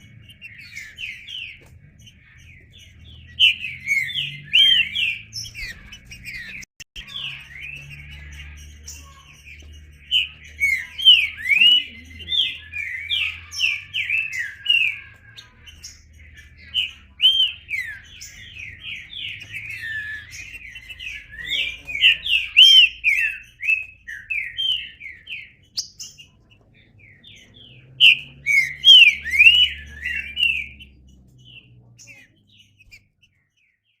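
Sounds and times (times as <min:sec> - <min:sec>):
bird singing whistled notes: 0:00.0 - 0:15.1, 0:15.8 - 0:34.0.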